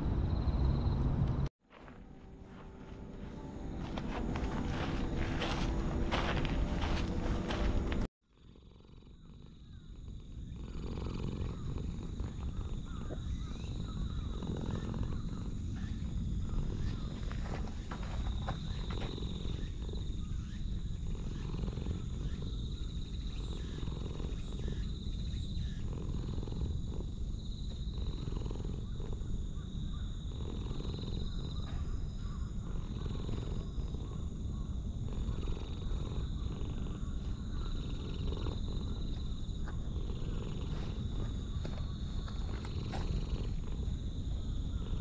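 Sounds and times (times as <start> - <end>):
cat purring: 3.6 - 29.5, 30.2 - 31.7, 32.4 - 45.0.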